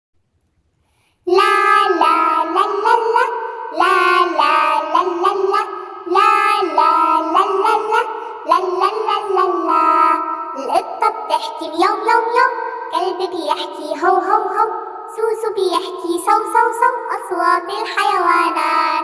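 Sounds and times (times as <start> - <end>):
child-like singing: 1.3 - 19.0
children's song music: 1.3 - 19.0.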